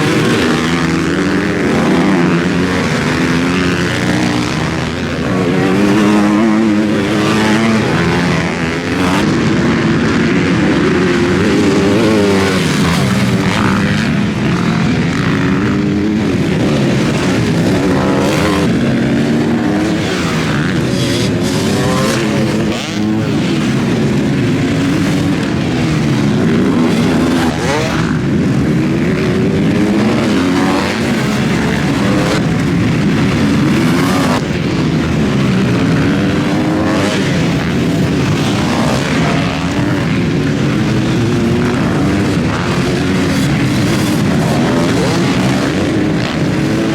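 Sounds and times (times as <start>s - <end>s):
motocross bike engines revving: 0.0s - 46.9s.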